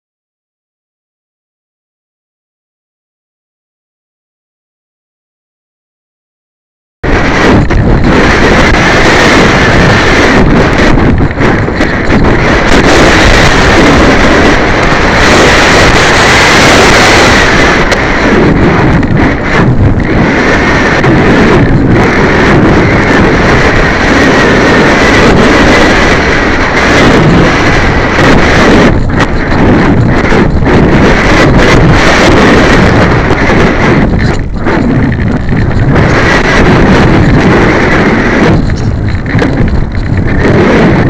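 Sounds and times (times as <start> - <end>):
wind rushing over microphone: 7.0 - 41.0.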